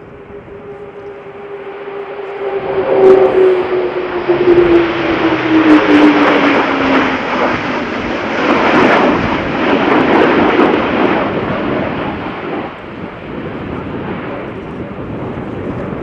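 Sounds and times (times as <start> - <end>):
aircraft engines roaring past: 0.0 - 16.0.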